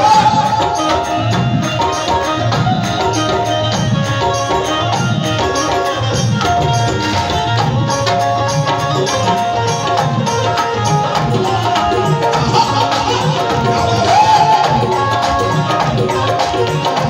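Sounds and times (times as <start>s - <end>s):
drums keeping steady beat: 0.0s - 17.0s
melody of held notes: 0.0s - 17.0s.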